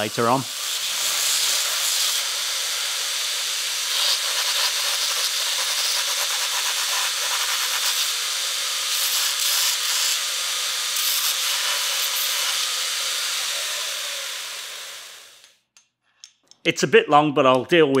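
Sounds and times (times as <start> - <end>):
belt grinder grinding metal: 0.0 - 15.5.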